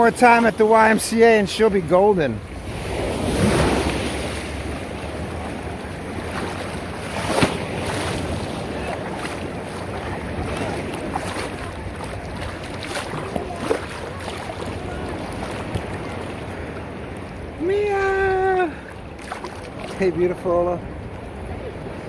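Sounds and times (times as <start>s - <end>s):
ocean surf washing: 0.0s - 22.0s
wind buffeting microphone: 0.0s - 22.0s.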